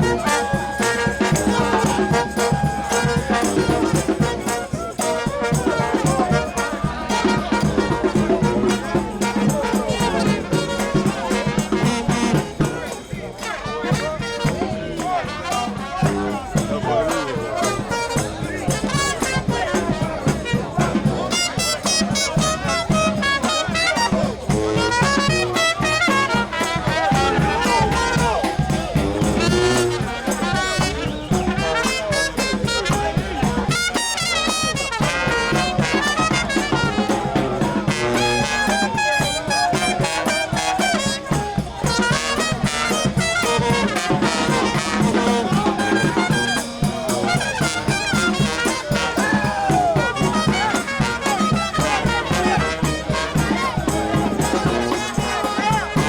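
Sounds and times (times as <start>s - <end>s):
driving drumbeat: 0.0s - 56.0s
trumpets and trombones: 0.0s - 56.0s.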